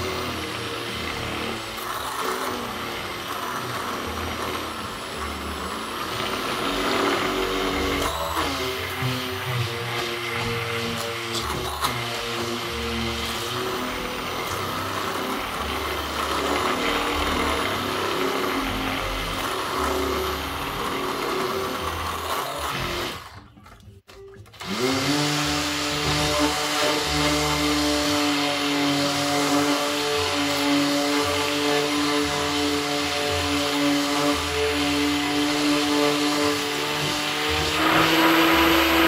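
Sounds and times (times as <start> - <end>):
immersion blender running: 0.0 - 23.6, 24.5 - 39.0.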